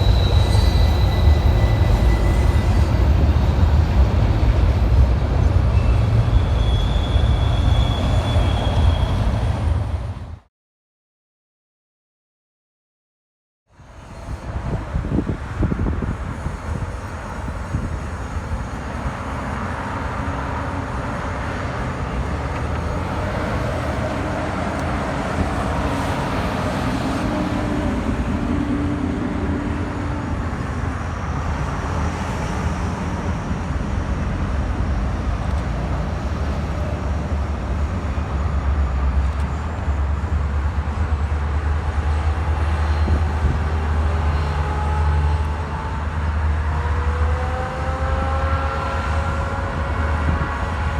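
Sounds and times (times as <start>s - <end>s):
freight train rumbling past: 0.0s - 10.5s, 13.8s - 50.9s.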